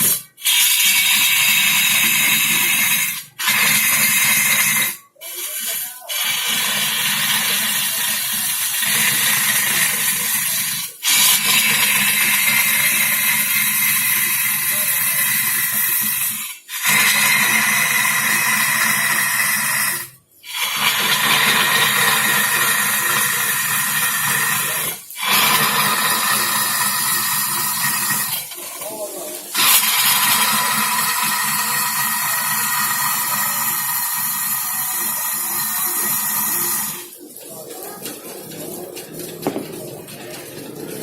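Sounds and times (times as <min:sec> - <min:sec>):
wood lathe cutting hiss: 0:00.0 - 0:28.8, 0:29.5 - 0:37.1.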